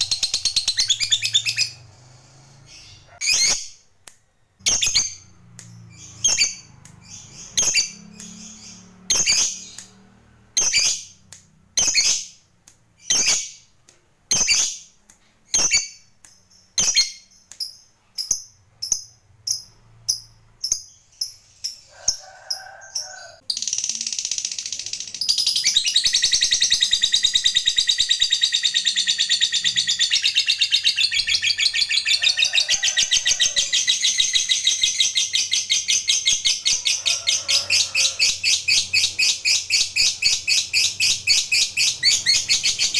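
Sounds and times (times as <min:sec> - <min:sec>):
lovebird chirps: 0:00.0 - 0:13.7, 0:14.3 - 0:22.2, 0:22.9 - 0:42.9.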